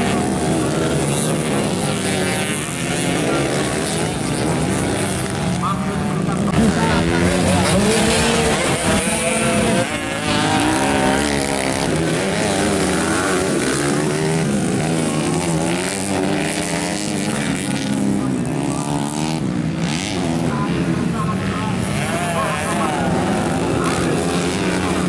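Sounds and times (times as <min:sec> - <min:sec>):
dirt bike engines racing: 0:00.0 - 0:25.0.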